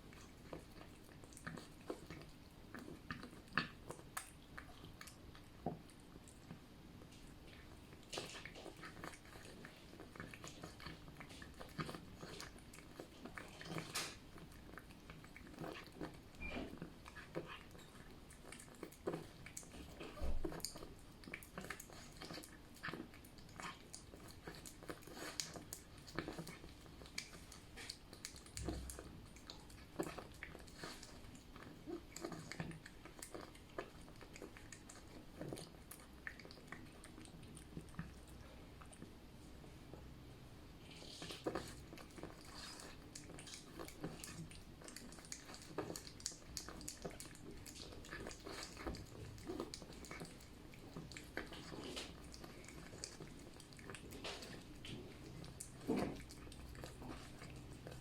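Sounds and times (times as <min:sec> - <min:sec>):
cat chewing wet food: 0:00.0 - 0:58.0.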